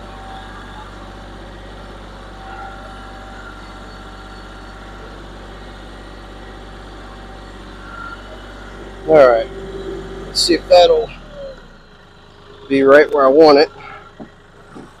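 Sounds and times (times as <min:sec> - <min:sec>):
faint thin whine: 0:00.0 - 0:15.0
tractor diesel engine idling: 0:00.0 - 0:15.0.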